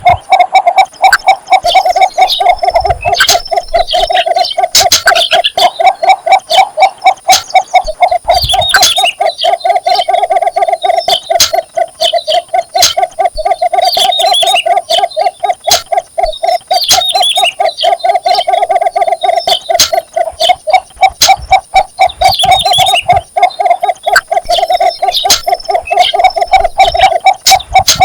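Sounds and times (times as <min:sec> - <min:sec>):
bittern calling low notes: 0:00.0 - 0:28.0
sharp clicks: 0:00.0 - 0:28.0
small birds chirping: 0:00.0 - 0:28.0.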